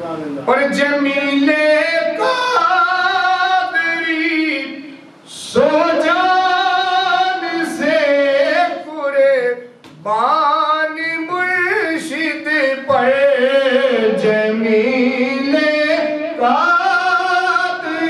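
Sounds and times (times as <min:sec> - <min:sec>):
man singing into a microphone: 0:00.5 - 0:18.0.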